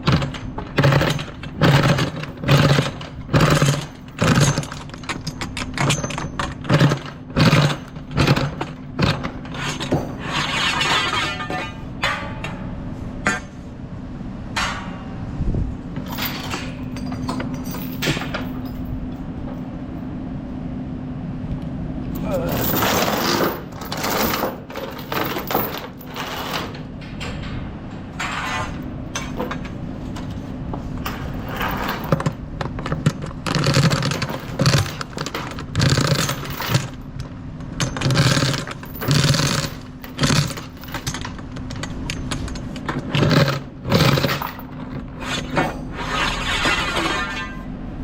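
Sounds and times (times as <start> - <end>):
chains rattling and clanking: 0.0 - 12.6, 15.9 - 19.7, 22.2 - 37.2, 37.8 - 47.7
steady low hum: 0.0 - 48.0.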